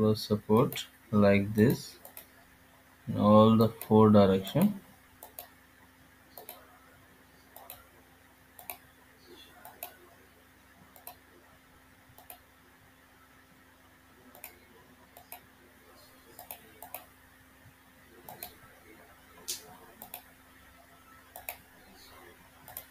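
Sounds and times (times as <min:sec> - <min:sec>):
faint hum: 0:00.0 - 0:22.9.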